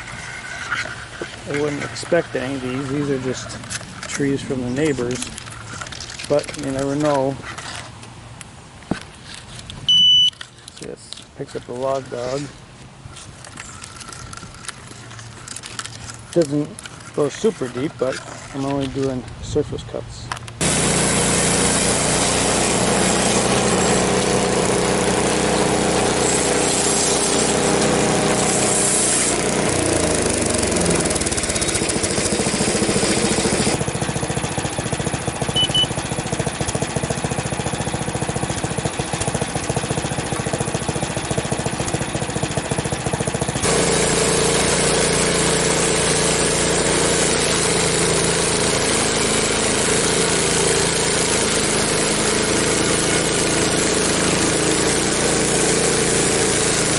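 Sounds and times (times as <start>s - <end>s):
bandsaw sawmill engine running: 0.0s - 7.6s, 13.5s - 19.3s, 20.6s - 56.9s.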